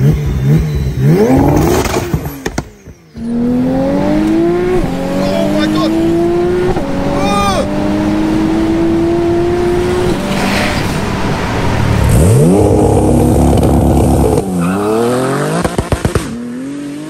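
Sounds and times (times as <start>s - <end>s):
sports car engine accelerating hard: 0.0s - 17.0s.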